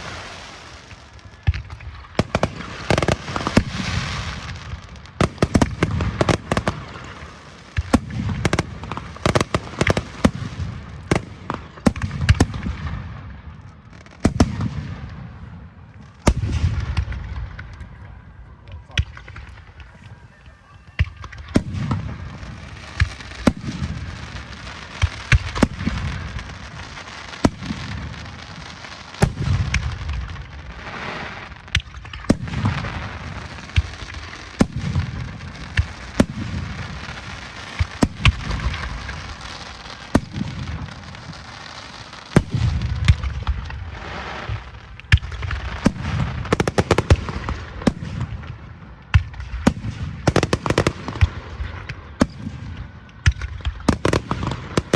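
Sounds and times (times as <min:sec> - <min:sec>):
crackling bangs: 0:00.0 - 0:54.9
fireworks booming: 0:00.0 - 0:54.9
fireworks cracking: 0:00.0 - 0:54.9.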